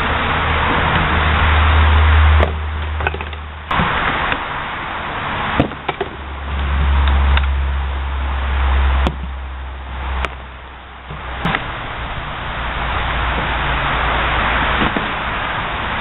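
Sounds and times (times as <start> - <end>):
low hum: 0.0 - 16.0
steady rushing noise: 0.0 - 16.0.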